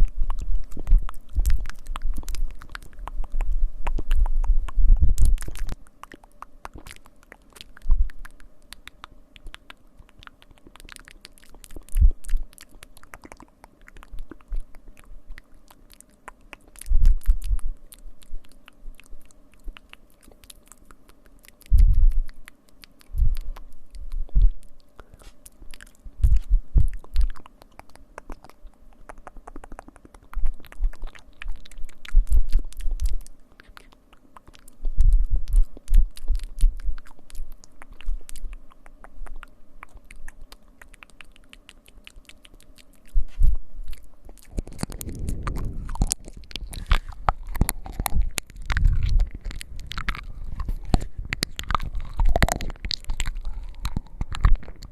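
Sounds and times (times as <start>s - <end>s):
crackly scratching clicks: 0.0s - 54.9s
mouth sounds: 0.0s - 54.9s.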